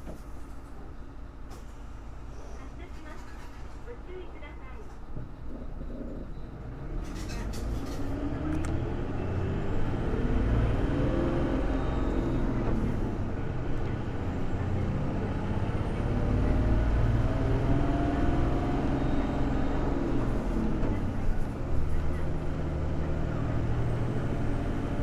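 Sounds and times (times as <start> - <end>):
bus engine accelerating: 5.0 - 25.0.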